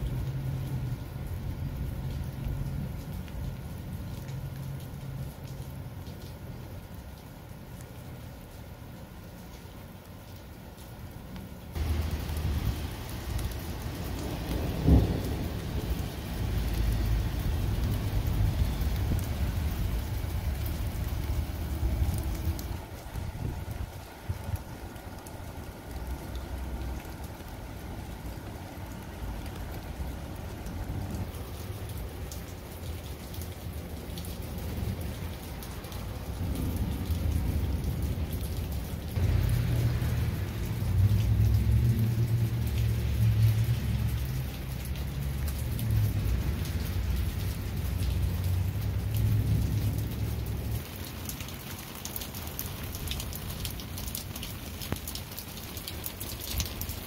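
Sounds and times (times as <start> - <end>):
patter of falling water: 0.0 - 57.0.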